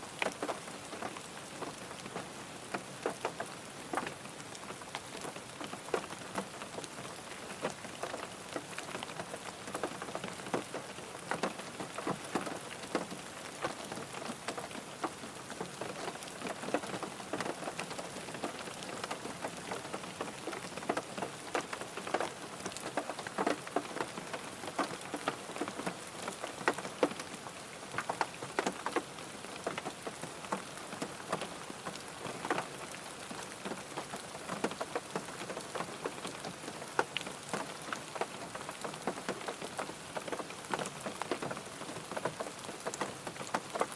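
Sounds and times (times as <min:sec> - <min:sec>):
rain falling on a car: 0:00.0 - 0:43.9.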